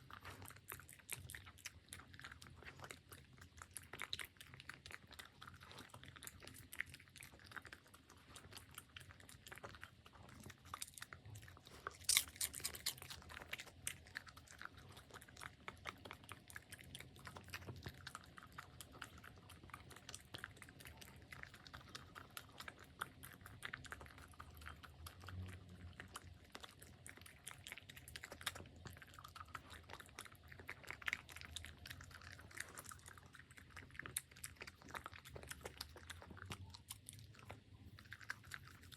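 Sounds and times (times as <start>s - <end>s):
puppy crunching food: 0.0s - 38.9s.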